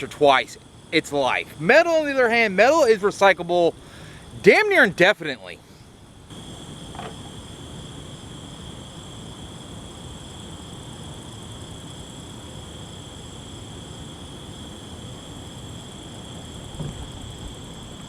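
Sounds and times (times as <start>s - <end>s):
insects droning: 0.0s - 18.0s
low background hum: 0.0s - 18.0s.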